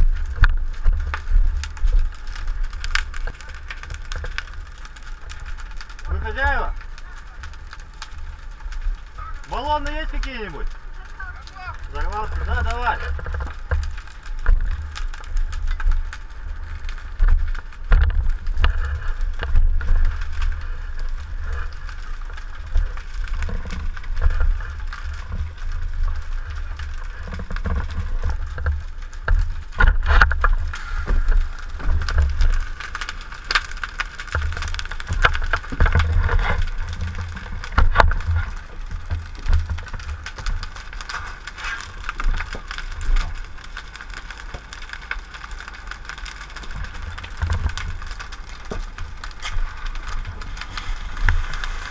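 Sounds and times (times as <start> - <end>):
sharp knocks and crackles: 0.0 - 51.9.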